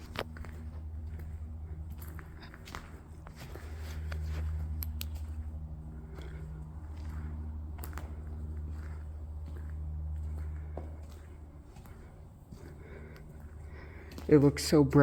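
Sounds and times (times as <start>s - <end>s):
clicks and scuffs: 0.0s - 15.0s
footsteps in empty building: 0.0s - 15.0s
steady low rumble: 0.0s - 15.0s.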